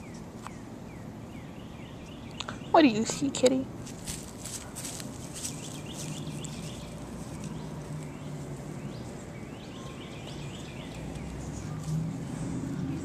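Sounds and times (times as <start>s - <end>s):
bird chirping: 0.0s - 3.5s, 4.6s - 13.0s
low outdoor background hum: 0.0s - 13.0s.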